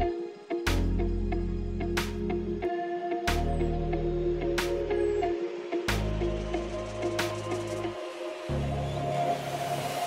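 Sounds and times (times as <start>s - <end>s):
slow background music: 0.0s - 10.0s.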